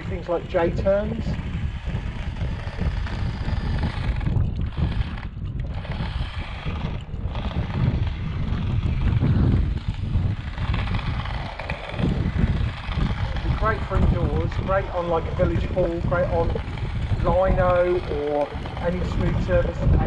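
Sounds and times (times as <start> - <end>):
toy car motor whirring: 0.0 - 20.0
wind buffeting microphone: 0.0 - 20.0.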